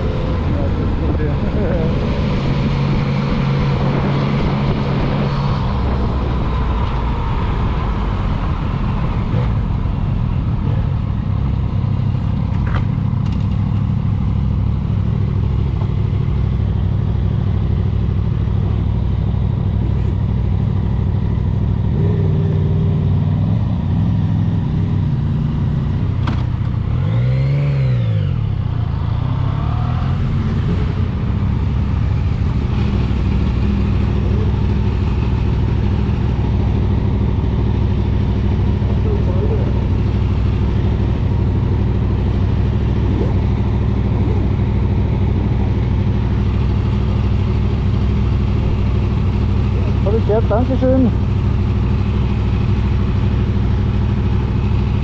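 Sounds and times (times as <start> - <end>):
motorcycle engine with gear changes: 10.4 - 55.0.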